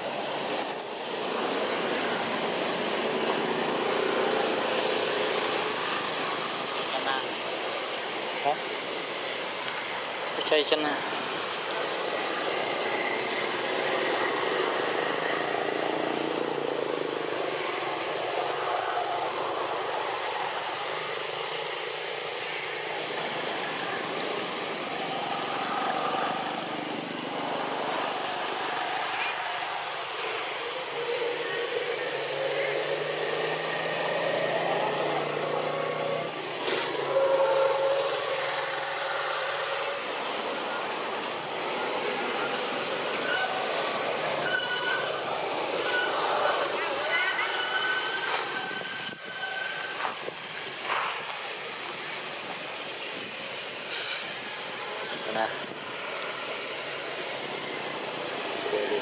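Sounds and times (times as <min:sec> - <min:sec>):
distant traffic: 0:00.0 - 0:59.0.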